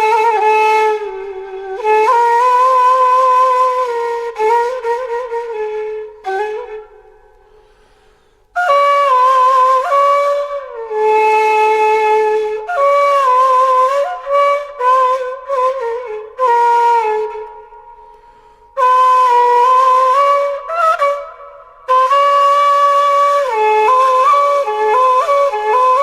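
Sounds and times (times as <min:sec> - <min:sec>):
flute-like slow melody: 0:00.0 - 0:07.5, 0:08.5 - 0:26.0.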